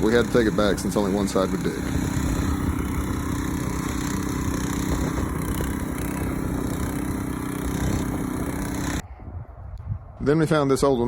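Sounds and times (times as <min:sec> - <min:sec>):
garden tiller engine running: 0:00.0 - 0:09.0.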